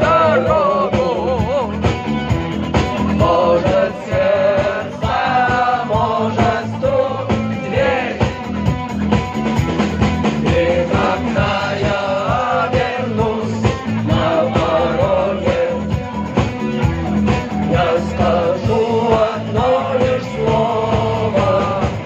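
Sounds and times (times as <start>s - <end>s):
instrumental rock music: 0.0s - 22.0s.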